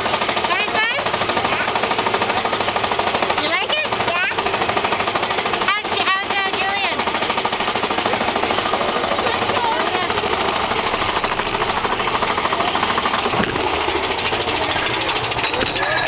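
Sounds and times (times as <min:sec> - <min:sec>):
roller coaster rattling on track: 0:00.0 - 0:16.0.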